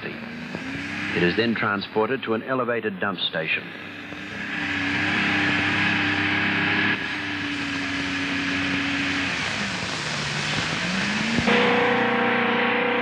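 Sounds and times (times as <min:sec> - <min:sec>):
heavy machinery engines running: 0:00.0 - 0:13.0.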